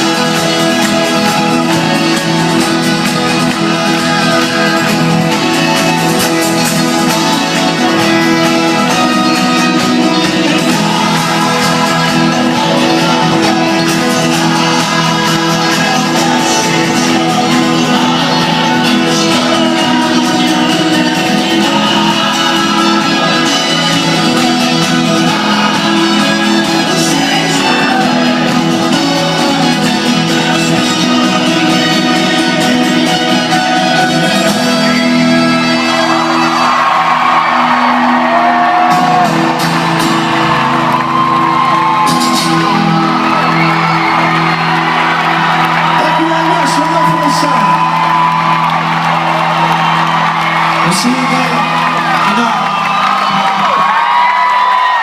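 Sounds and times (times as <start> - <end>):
crowd cheering and whistling: 0.0 - 55.0
live folk-rock band playing: 0.0 - 55.0.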